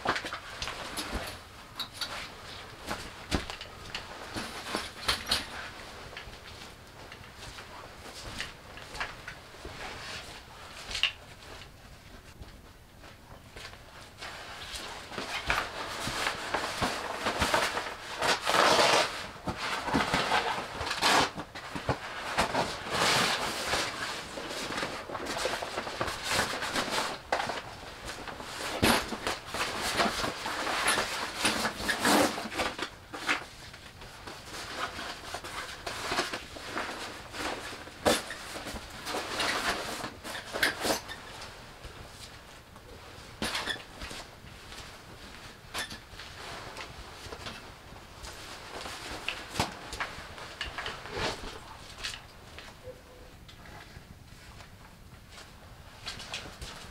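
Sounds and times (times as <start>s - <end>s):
sleeping mat rustling: 0.0s - 52.9s.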